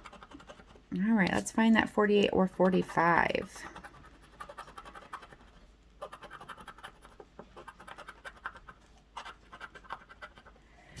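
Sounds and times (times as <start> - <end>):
scratching lottery ticket: 0.0 - 10.6.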